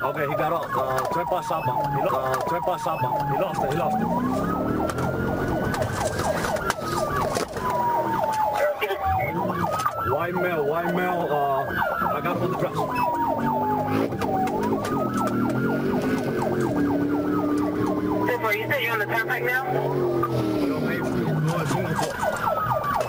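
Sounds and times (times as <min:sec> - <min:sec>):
police siren wailing: 0:00.0 - 0:23.0.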